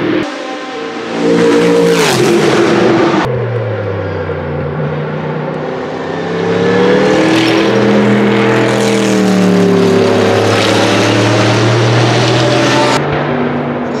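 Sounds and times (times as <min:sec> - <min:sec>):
race car passing at speed: 0:00.0 - 0:14.0.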